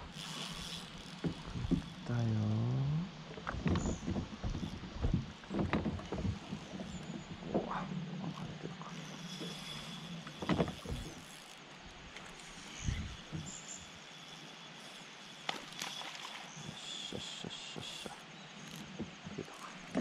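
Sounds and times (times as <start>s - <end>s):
quiet reservoir ambience: 0.0s - 20.0s
rod reel and boat knocks: 0.1s - 20.0s.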